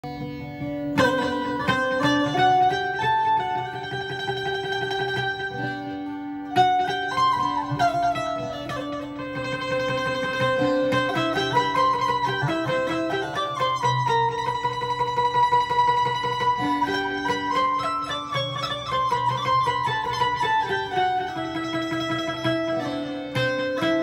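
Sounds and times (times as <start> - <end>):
keyed plucked string melody: 0.0 - 24.0.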